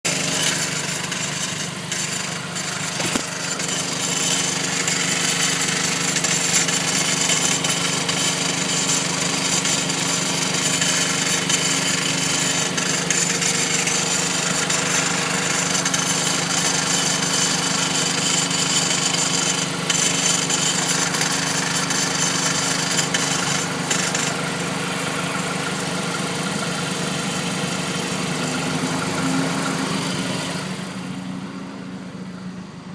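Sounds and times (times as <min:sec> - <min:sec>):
car engine running steadily: 0:00.0 - 0:32.9.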